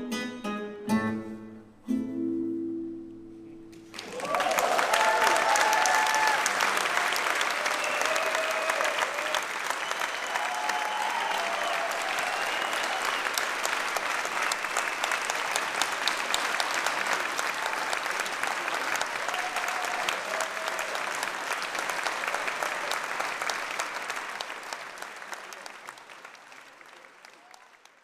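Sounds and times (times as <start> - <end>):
large audience applauding: 3.7 - 28.0.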